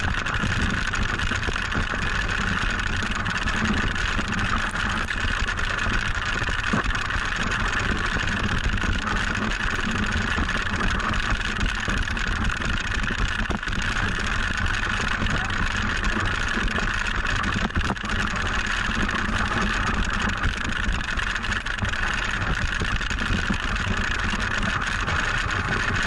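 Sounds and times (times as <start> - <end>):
sled rumbling: 0.0 - 26.0.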